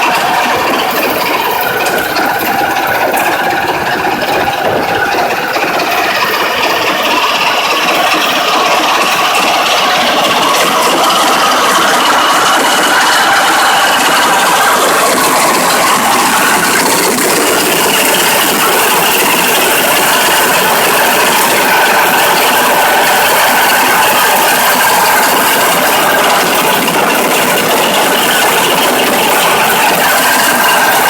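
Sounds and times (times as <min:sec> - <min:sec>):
harvesting combine engine running: 0:00.0 - 0:31.0.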